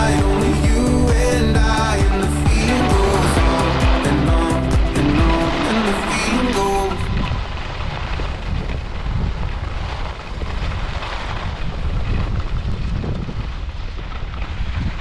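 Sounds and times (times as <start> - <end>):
skis sliding over snow: 0.0 - 15.0
wind buffeting microphone: 0.0 - 15.0.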